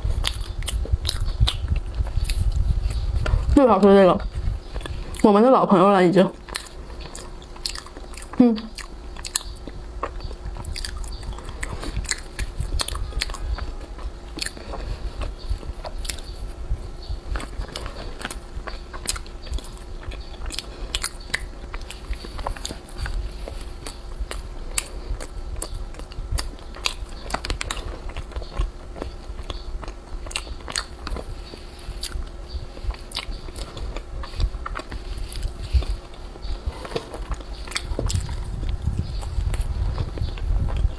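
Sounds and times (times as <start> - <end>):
sticky mouth sounds: 0.0 - 5.4, 6.4 - 40.9
crunchy pastry chewing: 0.0 - 40.9
faint steady hum: 0.0 - 40.9.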